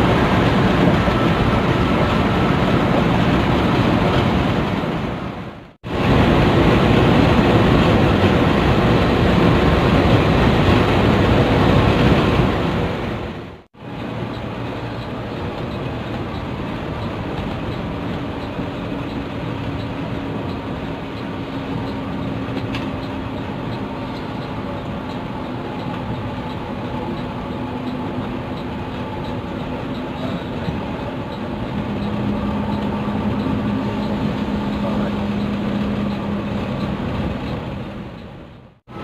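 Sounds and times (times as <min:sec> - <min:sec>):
coach engine and road rumble: 0:00.0 - 0:39.0.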